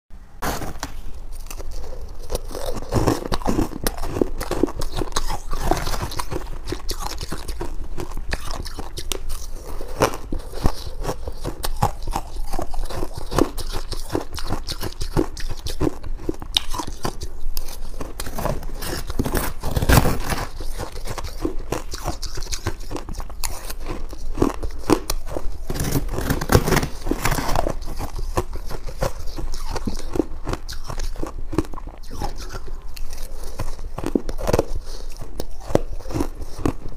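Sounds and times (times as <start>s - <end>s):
crunching and chewing ice: 0.4s - 36.9s.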